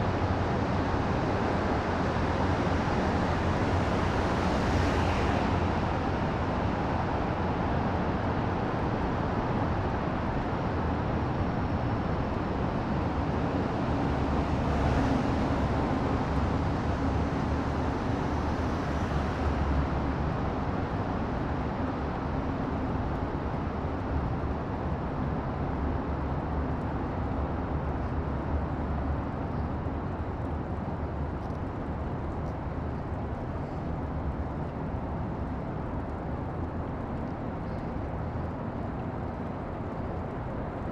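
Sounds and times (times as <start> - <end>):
low rumbling ambient noise: 0.0 - 40.9.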